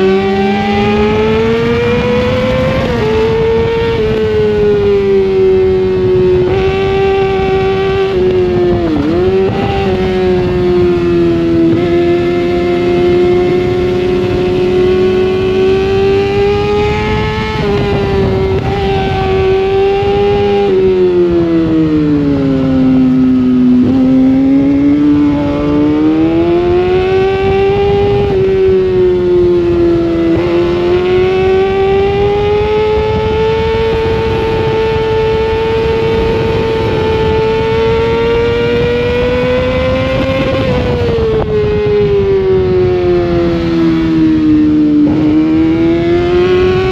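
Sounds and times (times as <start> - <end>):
sportbike engine racing: 0.0 - 46.9.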